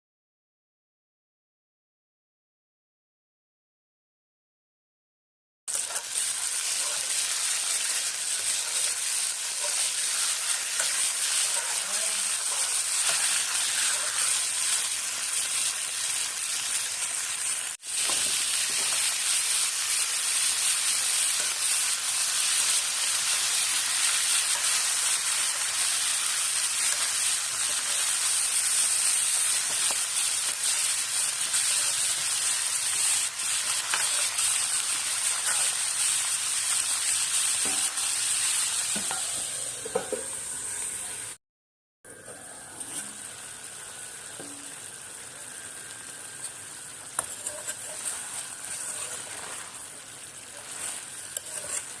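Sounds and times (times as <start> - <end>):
food sizzling in a pan: 5.7 - 41.4, 42.1 - 52.0.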